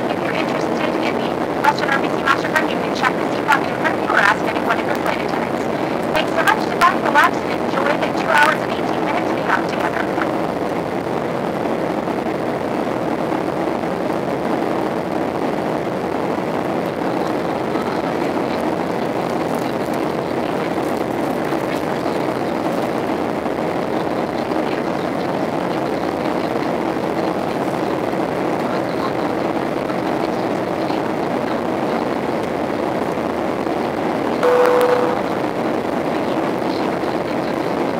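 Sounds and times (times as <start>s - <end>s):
airliner cabin noise: 0.0s - 12.1s, 14.0s - 32.4s, 33.7s - 37.9s.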